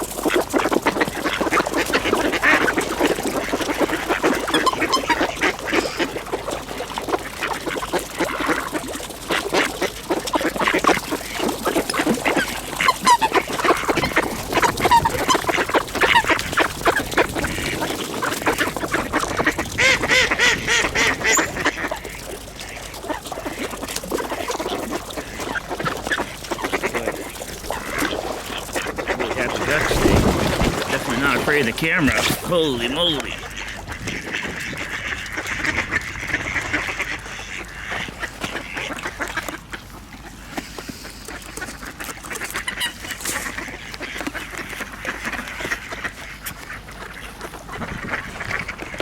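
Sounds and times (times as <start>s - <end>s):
ducks quacking: 0.0s - 49.0s.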